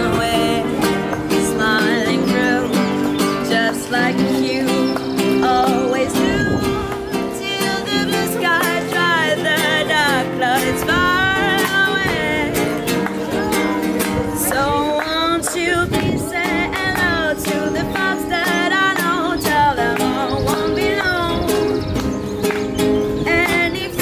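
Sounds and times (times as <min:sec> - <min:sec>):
nylon-string guitar strumming: 0:00.0 - 0:24.0
woman singing: 0:00.0 - 0:24.0.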